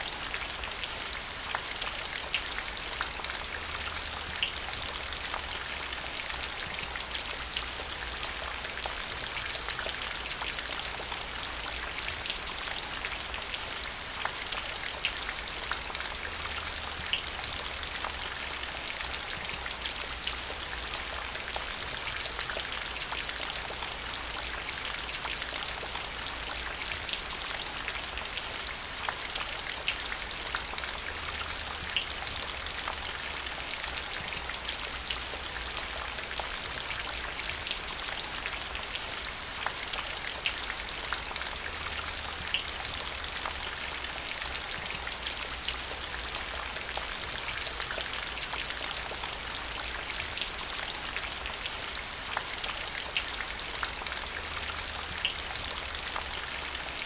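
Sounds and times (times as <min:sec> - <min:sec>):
rain on wet paving: 0:00.0 - 0:57.0.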